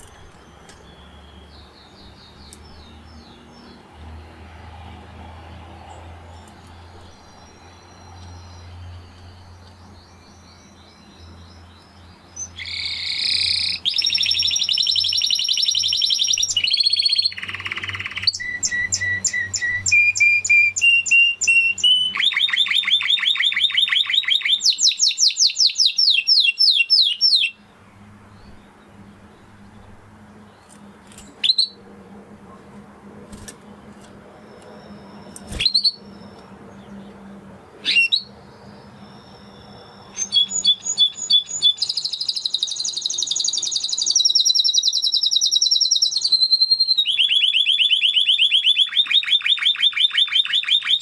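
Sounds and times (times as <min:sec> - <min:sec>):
canary singing rapid trills: 0:06.5 - 0:27.7, 0:28.3 - 0:31.9, 0:33.3 - 0:51.0.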